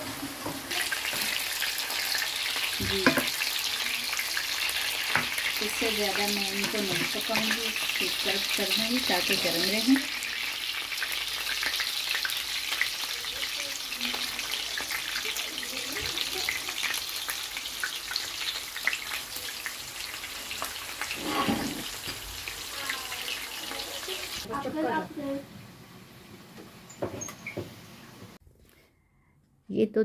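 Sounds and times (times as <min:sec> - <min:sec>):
kebabs laid into hot oil: 0:00.0 - 0:24.5
oil sizzling in a frying pan: 0:00.0 - 0:28.4.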